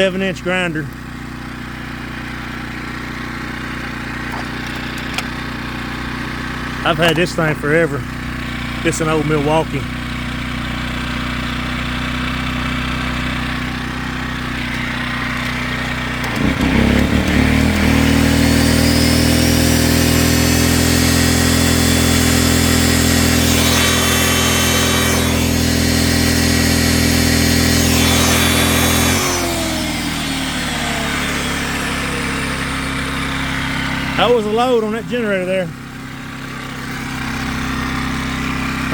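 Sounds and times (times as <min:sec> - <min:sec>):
angle grinder whine: 0:00.0 - 0:38.9
generator running: 0:00.0 - 0:38.9.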